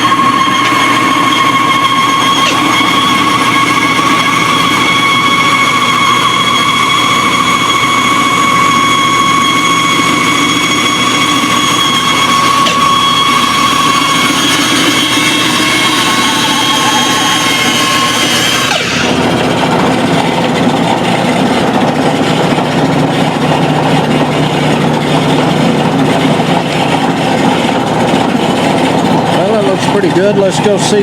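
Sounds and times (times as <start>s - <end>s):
bandsaw whining: 0.0s - 31.0s.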